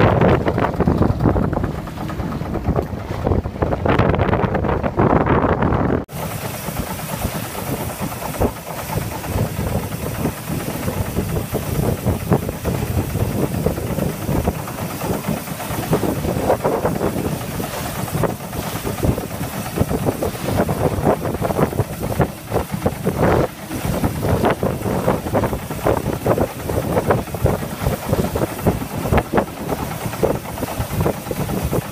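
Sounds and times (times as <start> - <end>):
boat engine running: 0.0 - 31.9.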